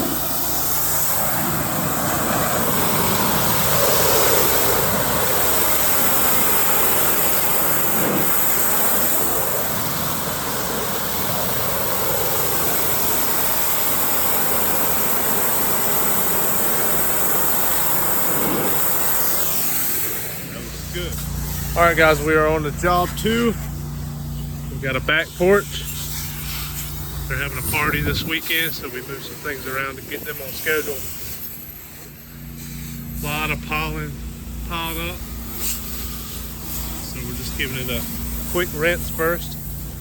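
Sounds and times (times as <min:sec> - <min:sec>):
pressure washer engine running: 0:00.0 - 0:40.0
pressure washer spray hiss: 0:00.0 - 0:40.0.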